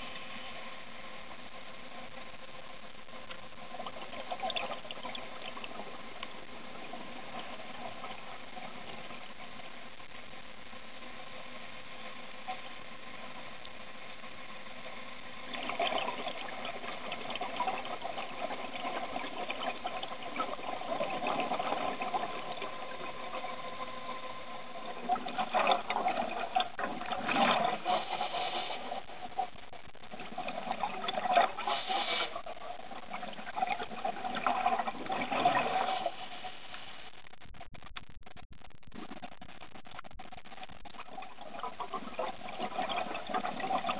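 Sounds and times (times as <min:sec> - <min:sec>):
steady mechanical hum: 0:00.0 - 0:37.9
underwater exhaust bubbles: 0:00.0 - 0:43.9.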